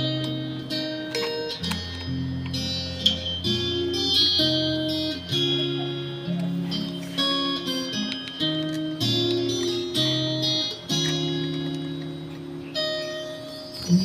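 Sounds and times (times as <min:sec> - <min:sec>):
guitar playing held chords: 0:00.0 - 0:14.0.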